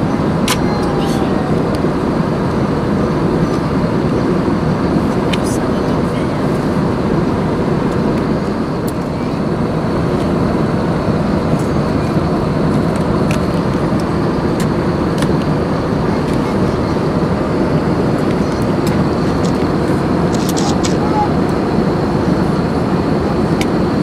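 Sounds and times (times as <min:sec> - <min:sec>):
aircraft cabin engine roar: 0:00.0 - 0:24.0.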